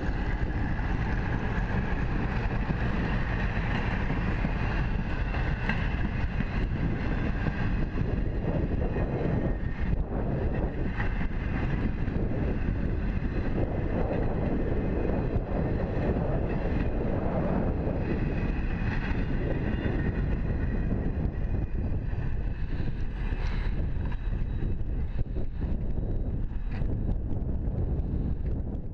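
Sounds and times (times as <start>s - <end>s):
freight train wheels rumbling: 0.0s - 28.9s
wind buffeting microphone: 0.0s - 28.9s.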